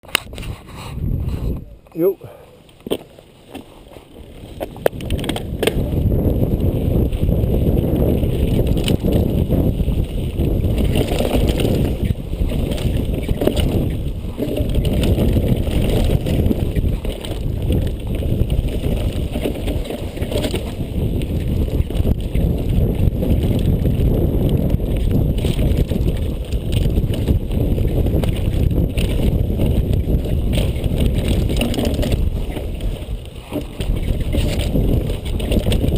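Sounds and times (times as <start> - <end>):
wind rushing on microphone: 0.0 - 2.2, 4.3 - 35.9
tyres on dirt: 0.0 - 35.9
bike knocking and rattling: 2.7 - 35.9.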